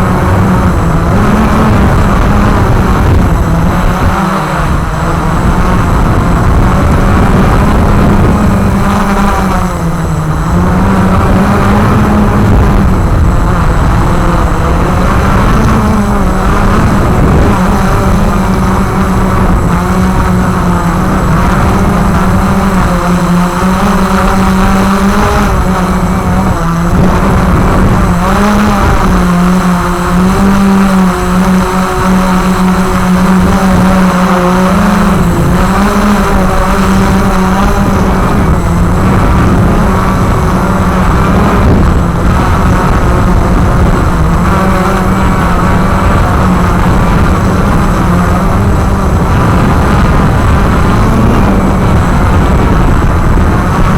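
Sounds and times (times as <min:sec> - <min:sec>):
drone motors buzzing: 0:00.0 - 0:53.9.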